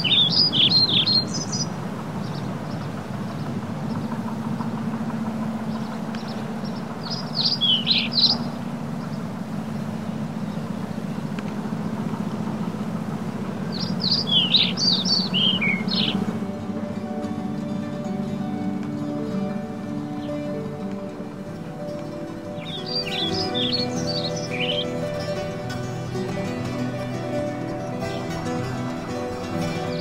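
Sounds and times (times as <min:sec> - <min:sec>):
low background rumble: 0:00.0 - 0:30.0
songbird chirping: 0:00.0 - 0:30.0.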